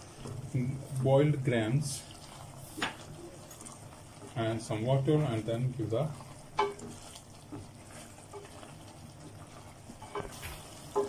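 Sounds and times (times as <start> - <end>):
wooden spatula stirring thick gravy: 0.0 - 11.0.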